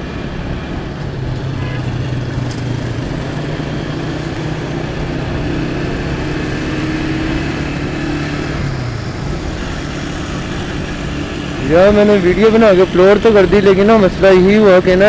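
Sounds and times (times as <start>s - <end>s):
motorcycle engine running: 0.0s - 14.4s
road noise: 0.0s - 15.0s.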